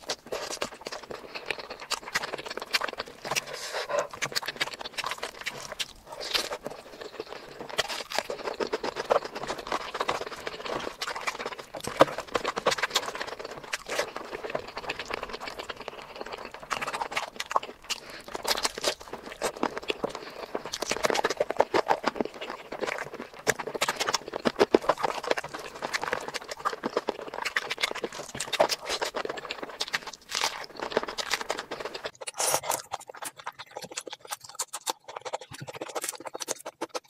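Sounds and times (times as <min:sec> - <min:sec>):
fingers squishing rice in curry: 0:00.0 - 0:37.0
mouth-open chewing: 0:00.0 - 0:37.0.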